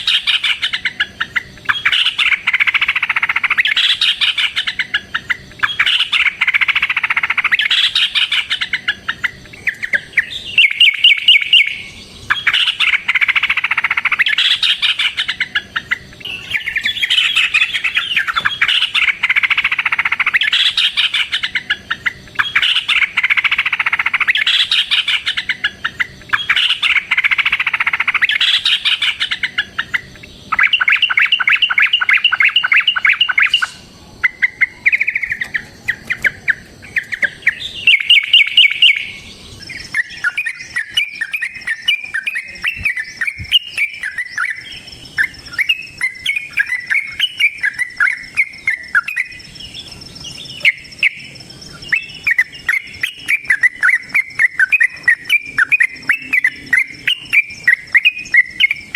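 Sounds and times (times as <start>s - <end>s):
bird singing chattering phrases: 0.0s - 58.9s
fast repeated bird notes: 0.0s - 58.9s.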